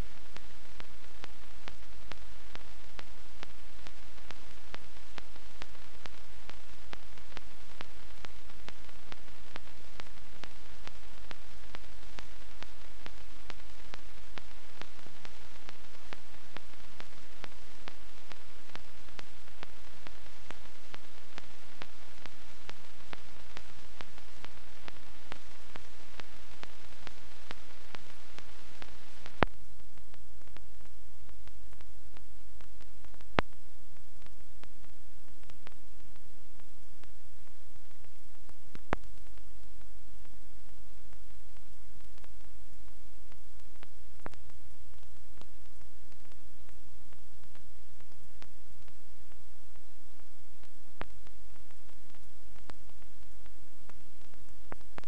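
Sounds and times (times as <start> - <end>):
faint ticks: 0.0 - 55.0
film projector hiss and hum: 0.0 - 55.0.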